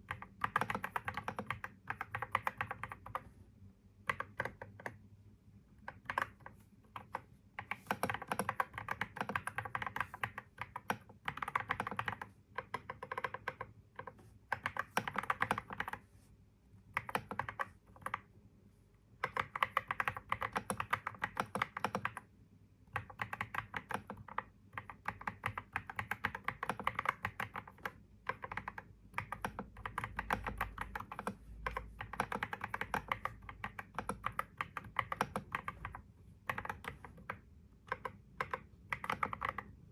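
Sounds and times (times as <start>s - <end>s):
typing on computer keyboard: 0.0s - 3.3s, 4.0s - 5.0s, 5.8s - 16.1s, 16.9s - 18.3s, 19.2s - 39.9s.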